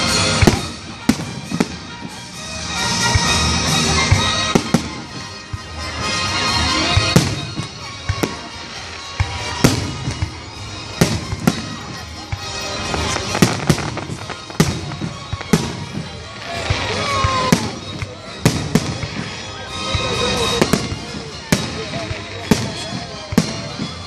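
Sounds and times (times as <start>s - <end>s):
fireworks bursting with sharp bangs: 0.0s - 24.0s.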